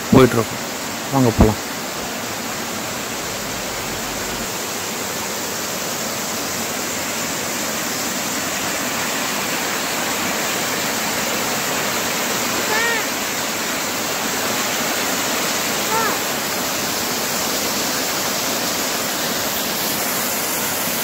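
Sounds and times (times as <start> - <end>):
waterfall cascading over rocks: 0.0 - 21.0.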